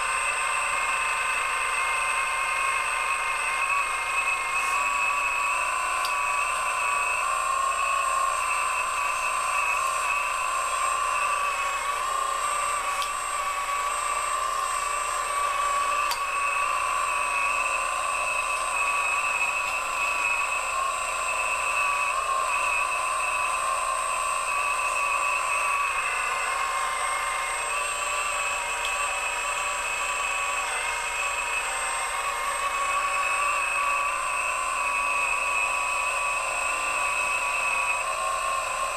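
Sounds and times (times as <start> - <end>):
toy excavator motor whining: 0.0 - 38.9.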